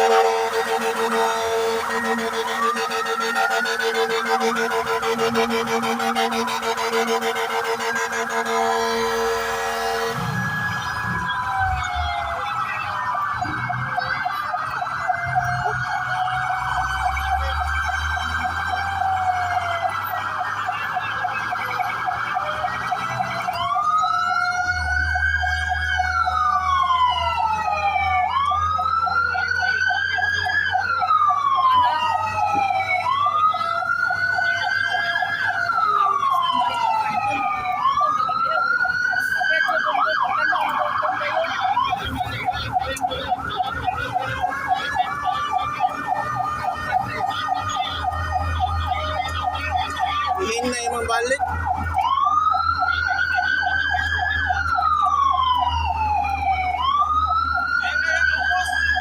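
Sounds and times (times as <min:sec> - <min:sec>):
fast yelping siren: 0:00.0 - 0:59.0
wailing siren: 0:00.0 - 0:59.0.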